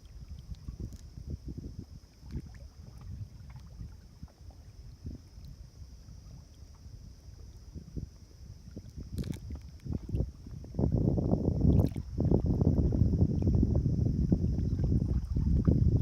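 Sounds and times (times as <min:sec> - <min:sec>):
water lapping and sloshing: 0:00.0 - 0:11.0, 0:11.6 - 0:16.0
faint high-pitched hiss: 0:00.0 - 0:16.0.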